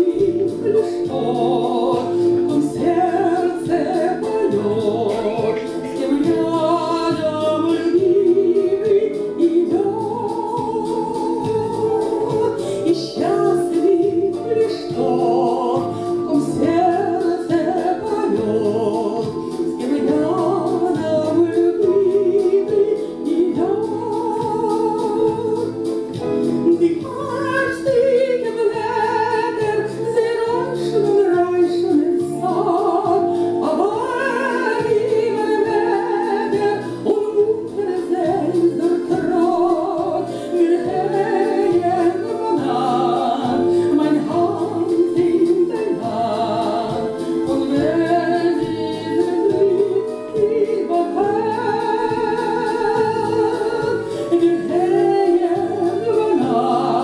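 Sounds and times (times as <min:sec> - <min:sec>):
piano accompaniment: 0:00.0 - 0:57.0
woman singing: 0:00.0 - 0:57.0.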